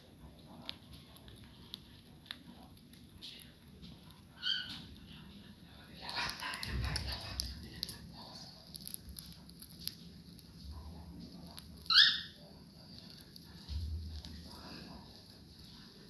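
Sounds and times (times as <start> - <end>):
birds pecking and crunching popcorn: 0.0 - 16.0.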